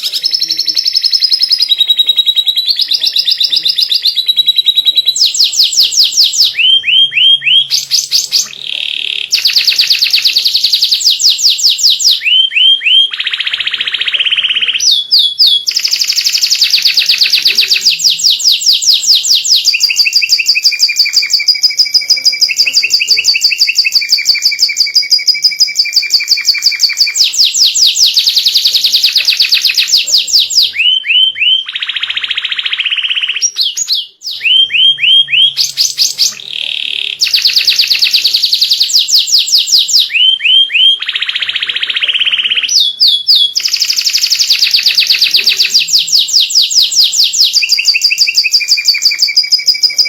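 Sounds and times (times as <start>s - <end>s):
canary singing trills: 0.0s - 50.0s.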